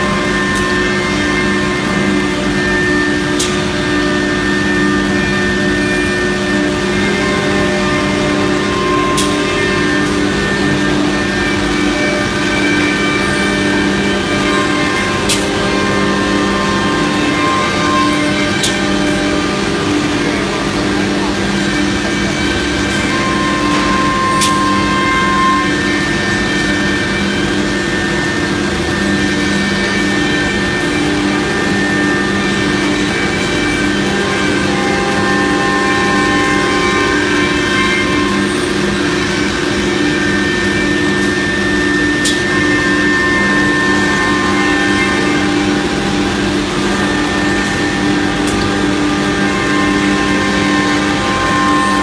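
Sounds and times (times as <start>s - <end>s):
wood router machine drone: 0.0s - 52.0s.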